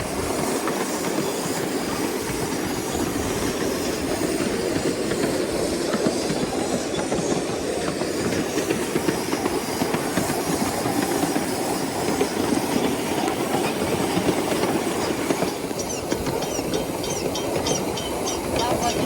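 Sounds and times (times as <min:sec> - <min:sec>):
miniature steam train clattering: 0:00.0 - 0:19.0.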